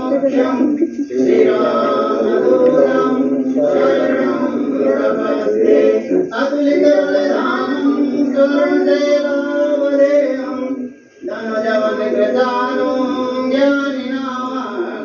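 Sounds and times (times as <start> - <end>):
group of voices singing a hymn: 0.0 - 15.0.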